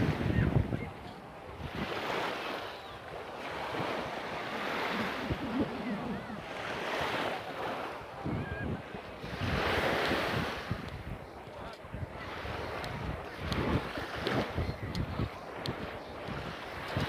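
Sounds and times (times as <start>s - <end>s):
waves washing onto sand: 0.0s - 17.0s
wind buffeting microphone: 0.0s - 17.0s.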